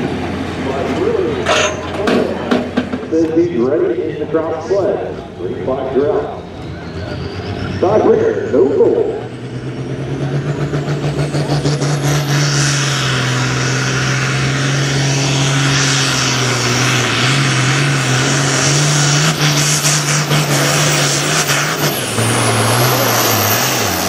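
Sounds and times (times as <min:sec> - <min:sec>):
tractor diesel engine under hard throttle: 0:00.0 - 0:24.0.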